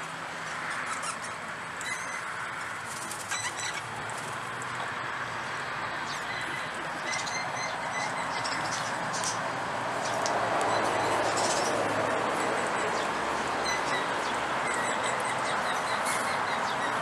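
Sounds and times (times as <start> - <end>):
birds chirping: 0.7 - 4.0, 5.9 - 17.0.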